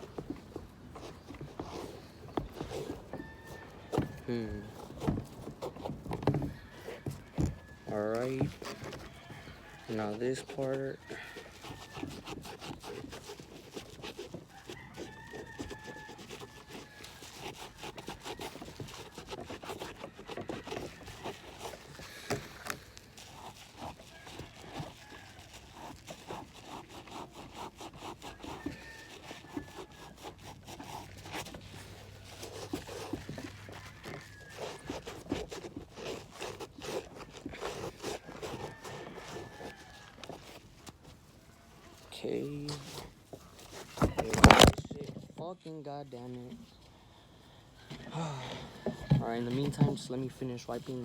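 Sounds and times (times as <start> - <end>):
scrubbing a leather sneaker: 0.0 - 51.0.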